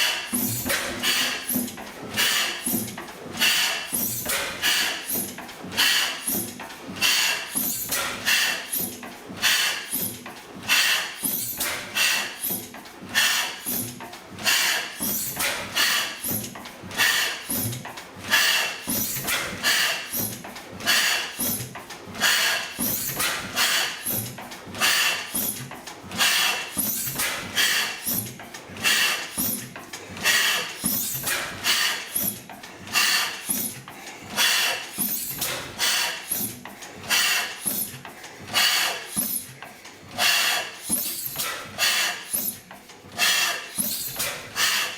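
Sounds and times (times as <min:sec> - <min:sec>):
engine exhaust chuffs: 0:00.0 - 0:44.9
stationary gas engine running: 0:00.0 - 0:44.9.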